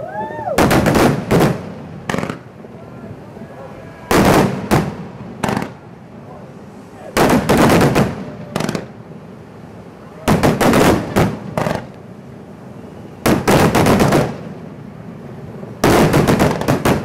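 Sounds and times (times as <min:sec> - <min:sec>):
fireworks banging: 0:00.3 - 0:17.0.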